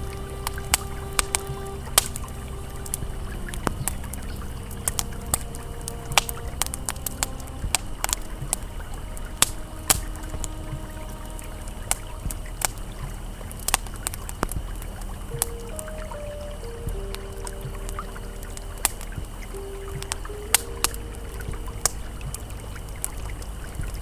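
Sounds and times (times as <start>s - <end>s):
campfire crackling and popping: 0.0s - 24.0s
river flowing: 0.0s - 24.0s
soft ambient music: 0.0s - 24.0s.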